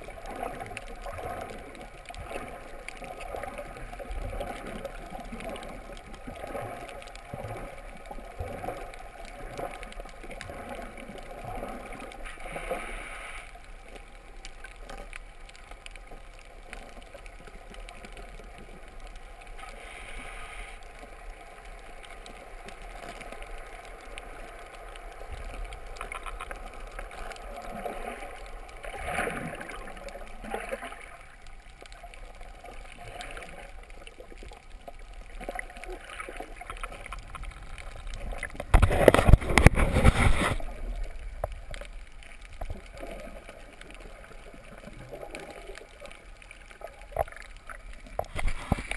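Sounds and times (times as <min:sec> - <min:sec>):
underwater water sloshing: 0:00.0 - 0:48.9.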